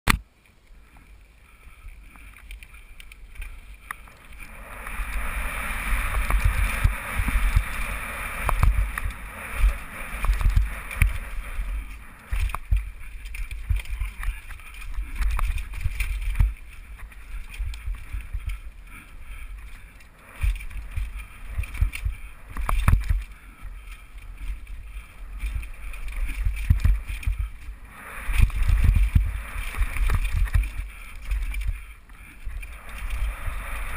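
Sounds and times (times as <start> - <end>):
wind rumbling on microphone: 0.5 - 33.9
tyres rolling over dirt and rock: 1.9 - 33.9
bike rattling and knocking: 6.0 - 33.4.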